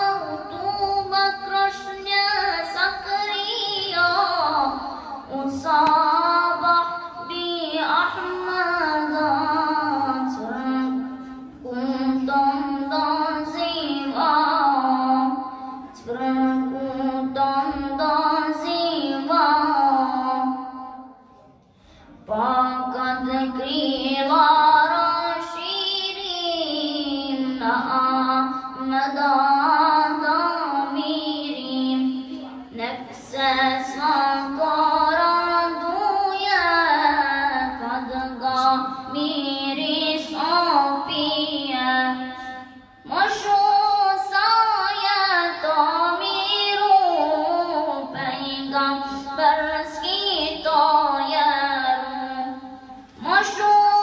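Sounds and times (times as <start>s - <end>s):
boy singing devotional song: 0.0s - 54.0s.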